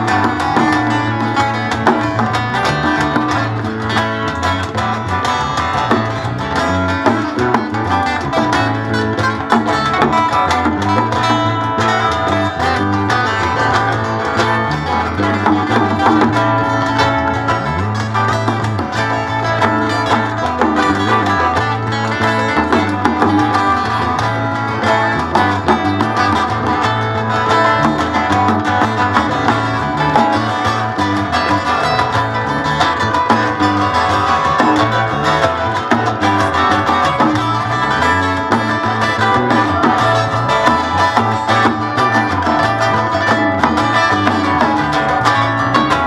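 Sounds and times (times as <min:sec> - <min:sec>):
bluegrass band playing: 0:00.0 - 0:46.0.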